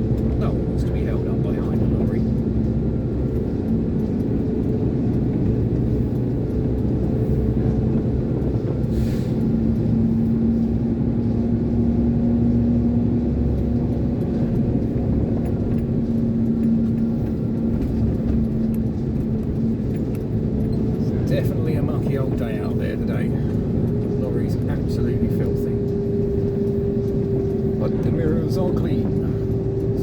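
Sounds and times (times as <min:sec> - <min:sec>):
lorry diesel engine driving: 0:00.0 - 0:30.0.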